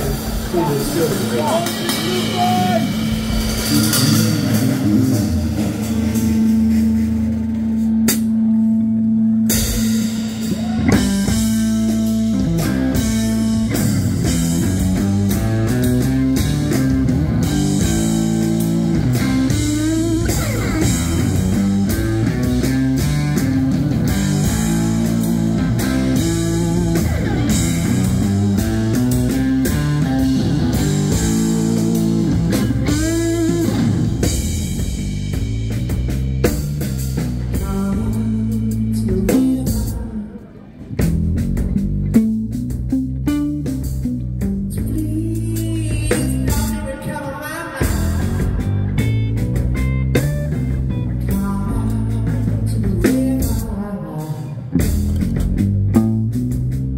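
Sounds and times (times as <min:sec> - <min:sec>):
electric guitar playing: 0:00.0 - 0:53.6, 0:54.5 - 0:56.9
drum kit: 0:00.0 - 0:56.9.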